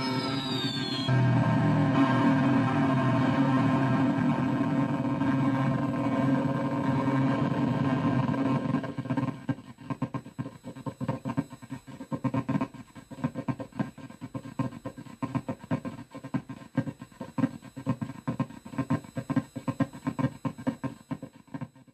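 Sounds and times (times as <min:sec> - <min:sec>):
electronic drone and glitchy pulses: 0:00.0 - 0:21.9.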